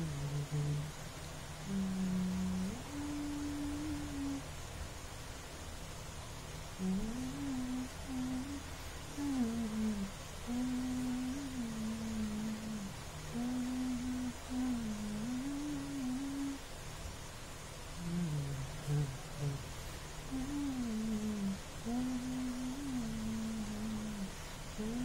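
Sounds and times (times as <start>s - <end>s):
person humming slow tune: 0.0s - 1.0s, 1.6s - 4.5s, 6.8s - 16.7s, 17.9s - 25.0s.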